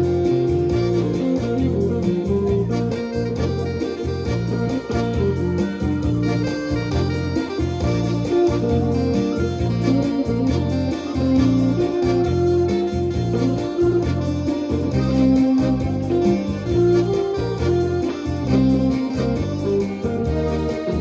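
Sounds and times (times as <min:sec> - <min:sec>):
organ-like electronic keyboard: 0:00.0 - 0:21.0
pulsing bass line: 0:00.0 - 0:21.0.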